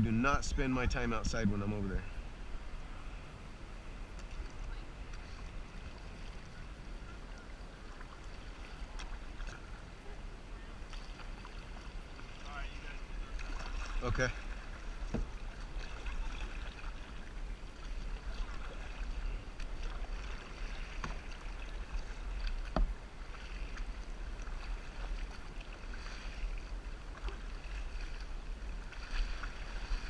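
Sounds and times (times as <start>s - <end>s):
wind rumble on microphone: 0.0s - 30.0s
water sloshing around a kayak: 1.6s - 30.0s.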